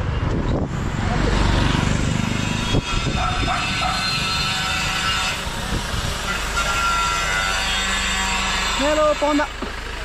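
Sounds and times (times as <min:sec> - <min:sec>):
low rumble of motor traffic: 0:00.0 - 0:10.0
road noise: 0:00.0 - 0:10.0.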